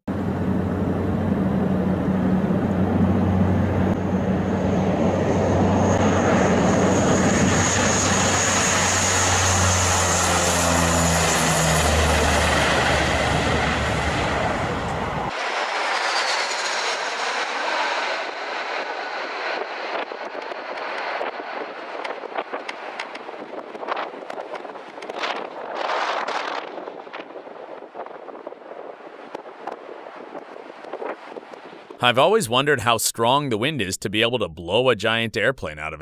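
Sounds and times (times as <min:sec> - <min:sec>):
jet rush and high whine: 0:00.1 - 0:32.4
thin aircraft noise: 0:00.1 - 0:32.5
airplane engines at high power: 0:00.1 - 0:32.9.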